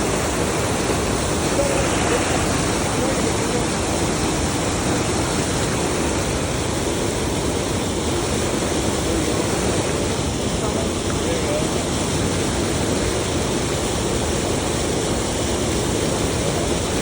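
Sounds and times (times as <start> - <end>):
water rushing through a dam: 0.0 - 17.0.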